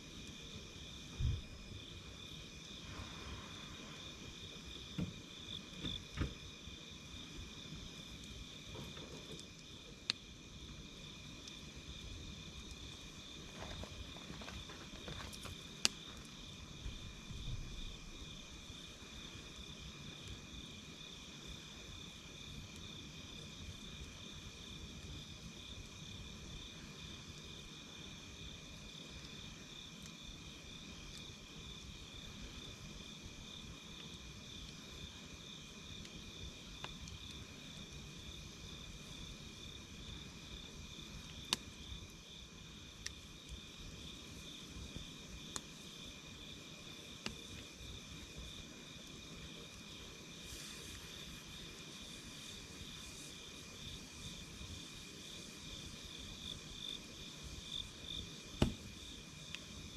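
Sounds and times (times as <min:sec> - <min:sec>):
fire popping: 0:00.0 - 0:20.5, 0:30.0 - 0:59.9
campfire crackling: 0:00.0 - 0:59.9
night insects chirring: 0:00.0 - 0:59.9.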